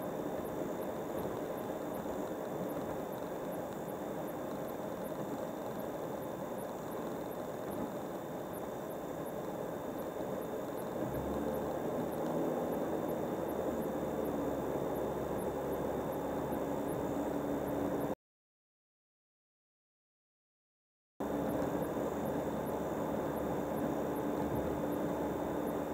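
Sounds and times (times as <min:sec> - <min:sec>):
car driving on highway: 0:00.0 - 0:18.2, 0:21.2 - 0:25.9.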